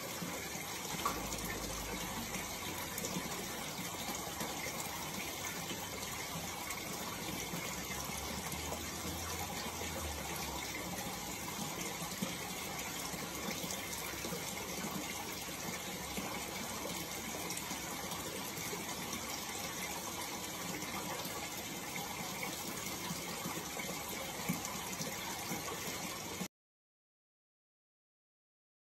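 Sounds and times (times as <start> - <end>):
aquarium filter water running: 0.0 - 26.5.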